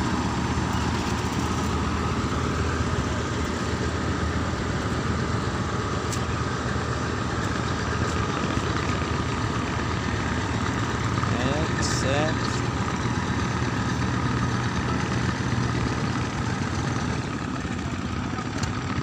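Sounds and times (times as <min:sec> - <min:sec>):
boat diesel engine drone: 0:00.0 - 0:19.0.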